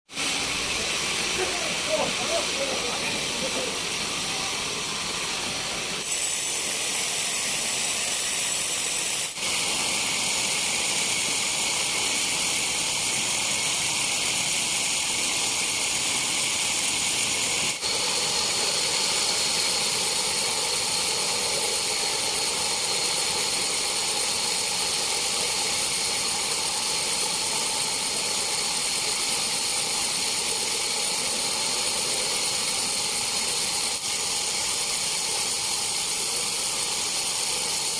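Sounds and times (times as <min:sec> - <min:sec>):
sawmill saw running: 0:00.1 - 0:37.9.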